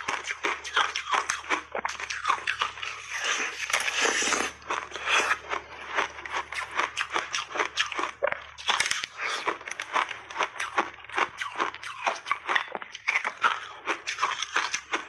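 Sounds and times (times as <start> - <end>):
ice crunching between teeth: 0.0 - 15.0.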